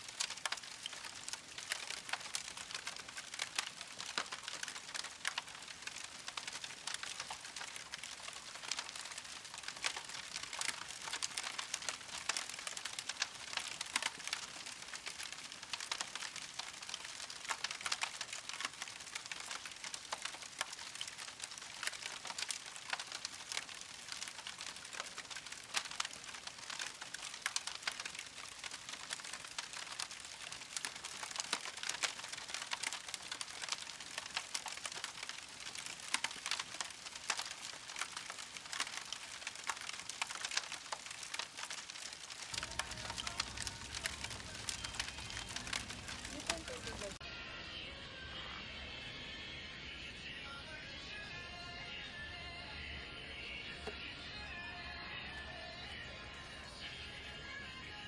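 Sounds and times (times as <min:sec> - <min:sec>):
meat sizzling on a grill: 0:00.0 - 0:47.2.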